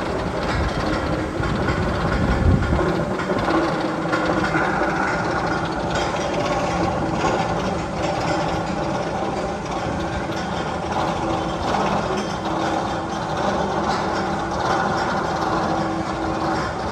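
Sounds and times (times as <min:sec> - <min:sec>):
roller coaster rumble and clatter: 0:00.0 - 0:16.9.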